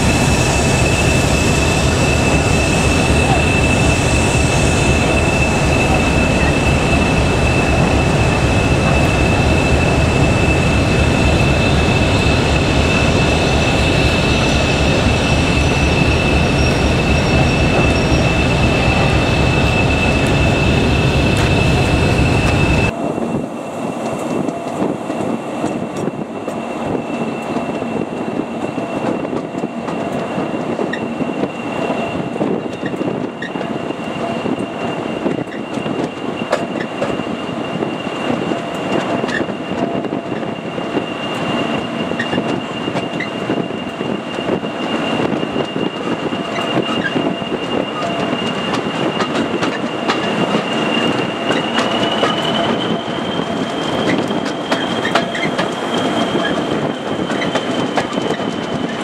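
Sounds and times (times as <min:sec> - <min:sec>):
diesel locomotive rumble: 0:00.0 - 0:31.3, 0:38.8 - 0:59.0.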